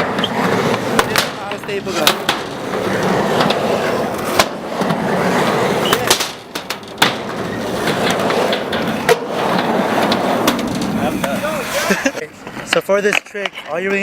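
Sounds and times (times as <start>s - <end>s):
skateboard rolling on a ramp: 0.0s - 13.6s
skateboard clacks: 0.0s - 14.0s.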